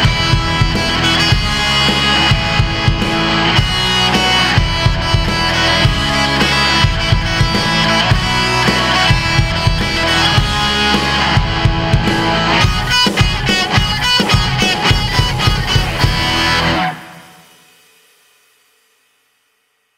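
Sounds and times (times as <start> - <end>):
steady drum beat: 0.0 - 17.8
rock guitar instrumental: 0.0 - 18.0.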